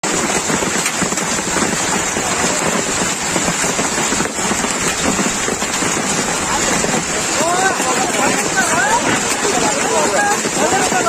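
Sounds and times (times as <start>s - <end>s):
heavy rain and hail pattering: 0.0s - 11.0s.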